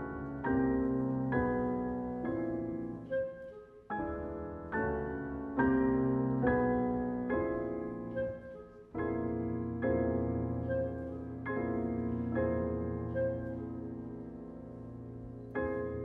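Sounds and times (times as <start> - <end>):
pianos playing slow chords: 0.0 - 16.0.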